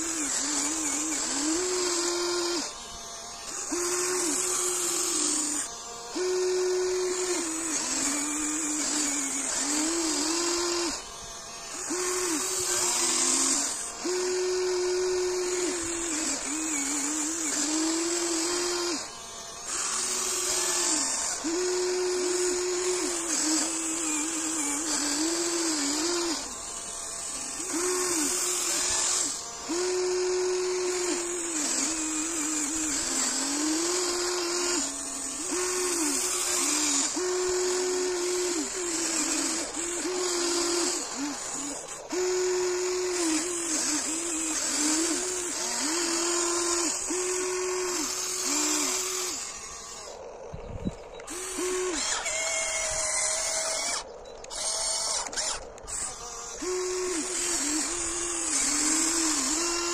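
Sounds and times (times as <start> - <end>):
hydraulic pump motor whining: 0.0 - 59.9.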